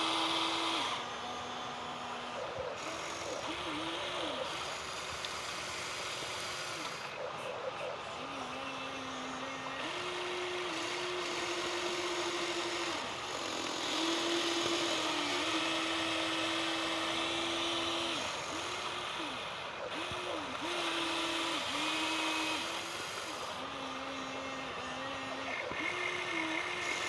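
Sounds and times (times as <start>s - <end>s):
small electric motor whine: 0.0s - 27.0s.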